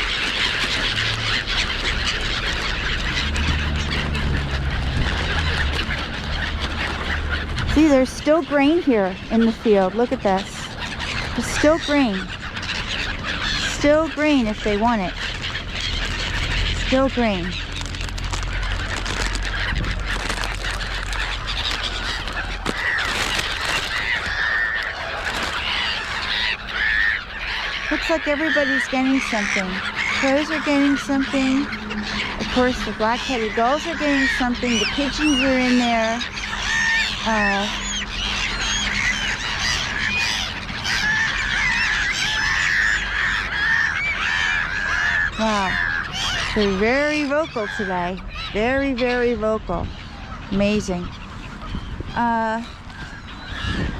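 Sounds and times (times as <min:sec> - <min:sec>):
gulls and crows calling: 0:00.0 - 0:53.9.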